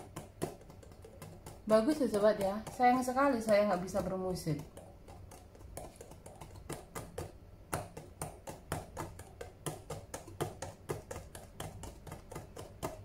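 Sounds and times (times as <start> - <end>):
fingertips tapping plastic lids: 0.0 - 13.0.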